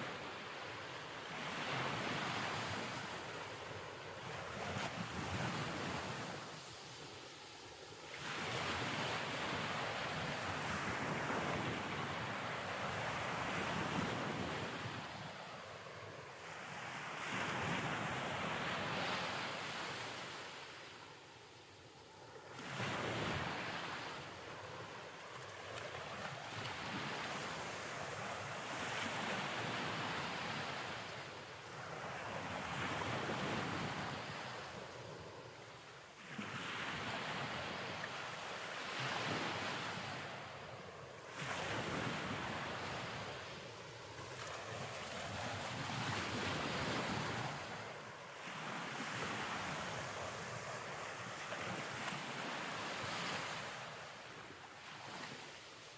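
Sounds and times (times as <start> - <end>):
ocean waves: 0.0 - 55.9.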